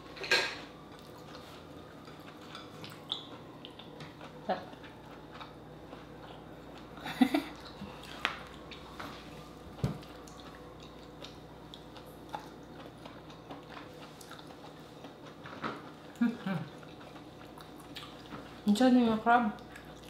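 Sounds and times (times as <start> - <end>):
chewing and mouth noises: 0.9 - 18.8, 19.5 - 20.0.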